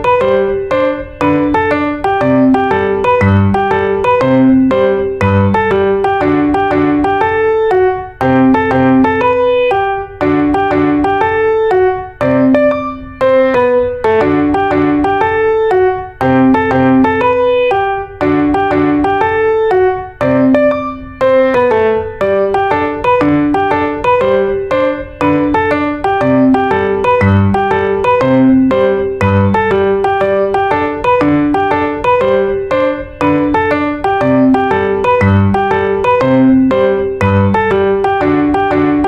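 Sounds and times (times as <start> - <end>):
piano melody: 0.0 - 39.0.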